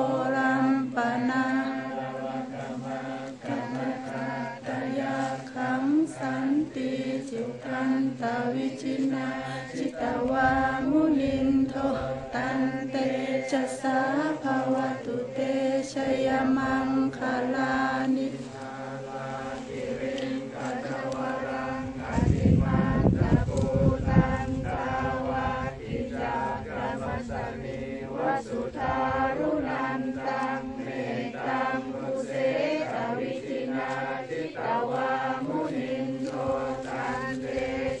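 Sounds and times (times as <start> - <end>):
men chanting in unison: 0.0 - 38.0.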